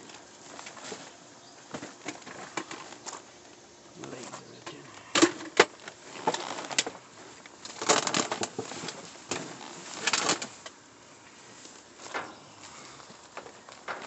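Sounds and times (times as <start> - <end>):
rustling and scuffing of trash: 0.0 - 14.0.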